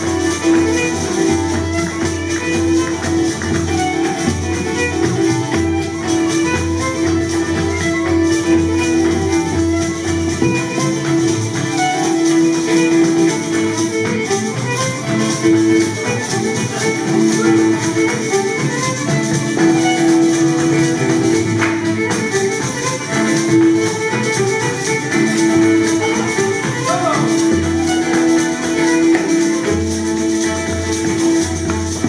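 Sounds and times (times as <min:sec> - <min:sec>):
acoustic guitar: 0:00.0 - 0:32.0
fiddle playing: 0:00.0 - 0:32.0
frame drum percussion: 0:00.0 - 0:32.0.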